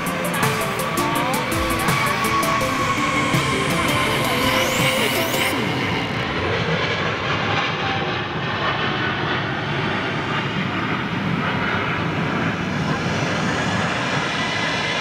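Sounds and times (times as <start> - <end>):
jet airliner engines roaring: 0.0 - 15.0.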